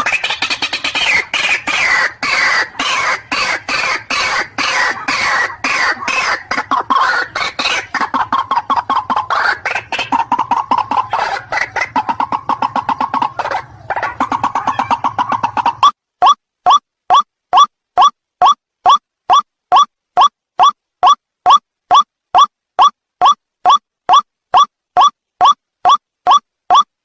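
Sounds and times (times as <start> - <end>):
bird calling harsh repeated notes: 0.0 - 26.9.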